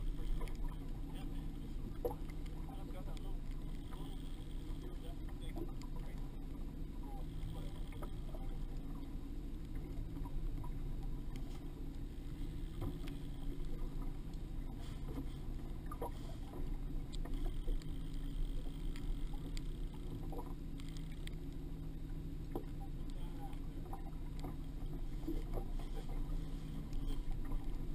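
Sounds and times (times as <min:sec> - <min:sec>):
boat engine rumble: 0:00.0 - 0:27.9
water splashes: 0:00.0 - 0:27.9.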